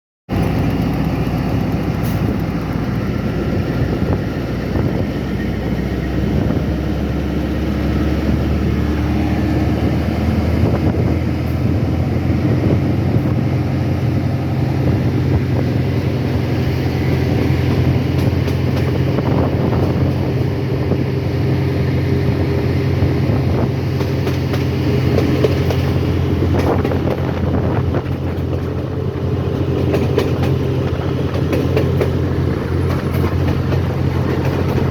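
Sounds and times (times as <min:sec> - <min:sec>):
moving train rumble: 0:00.3 - 0:34.9.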